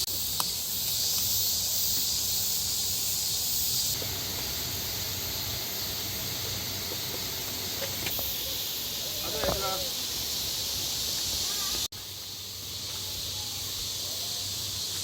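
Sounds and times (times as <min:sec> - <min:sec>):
high hiss: 0:00.0 - 0:15.0.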